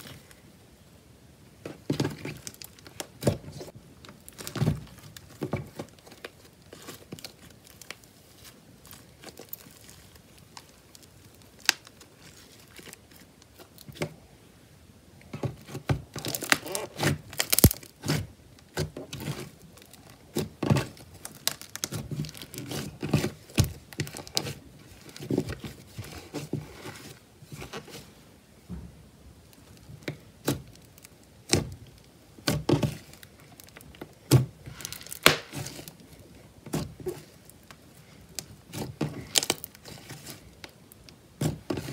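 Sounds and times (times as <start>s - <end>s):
slime squishing and crackling: 2.0s - 14.0s, 15.6s - 18.2s, 19.1s - 27.1s, 29.6s - 40.8s.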